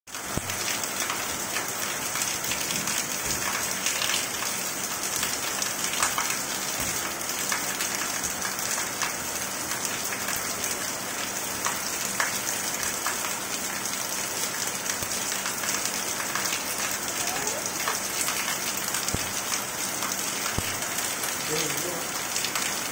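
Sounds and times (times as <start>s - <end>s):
rain on hard surfaces: 0.1s - 22.9s.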